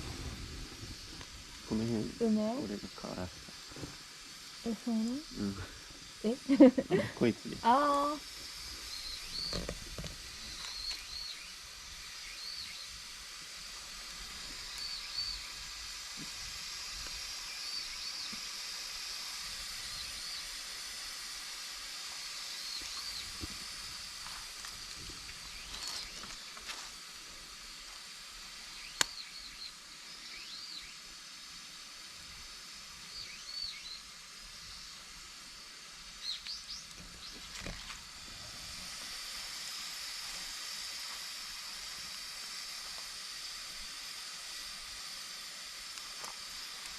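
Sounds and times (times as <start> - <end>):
campfire hissing and crackling: 0.0 - 46.9.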